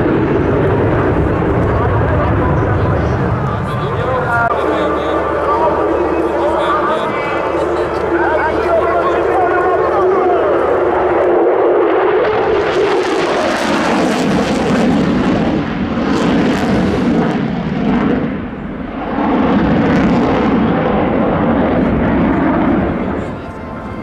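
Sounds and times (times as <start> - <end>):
jet engine rushing: 0.0 - 24.0.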